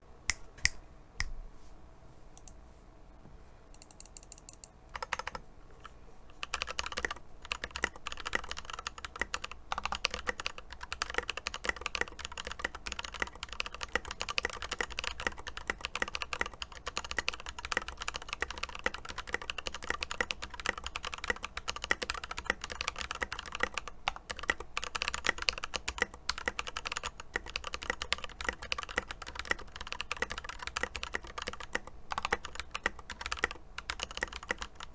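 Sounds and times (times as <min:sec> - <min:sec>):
mechanical keyboard typing: 0:03.8 - 0:34.9.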